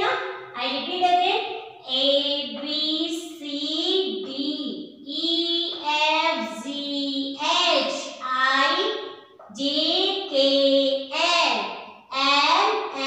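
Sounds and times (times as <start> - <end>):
high voice chanting letters: 0.0 - 13.0.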